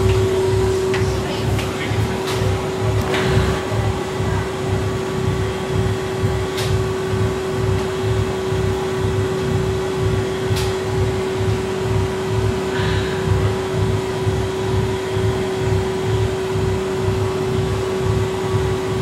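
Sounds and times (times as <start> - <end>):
machinery hum with throb: 0.0 - 19.0.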